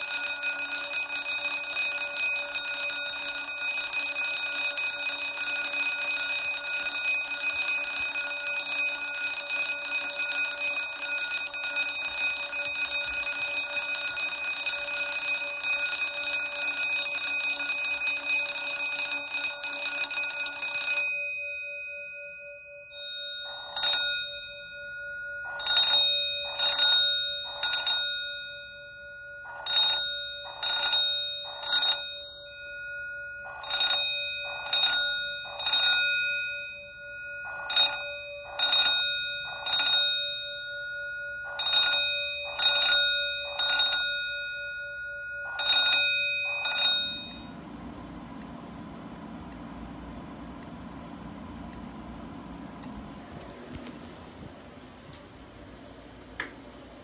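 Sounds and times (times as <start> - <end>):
fire alarm bell ringing: 0.0 - 53.9.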